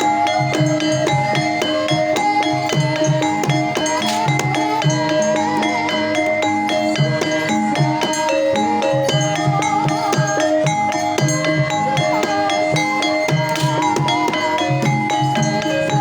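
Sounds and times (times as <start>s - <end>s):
bronze metallophones melody: 0.0s - 16.0s
hand drum strokes: 0.0s - 16.0s.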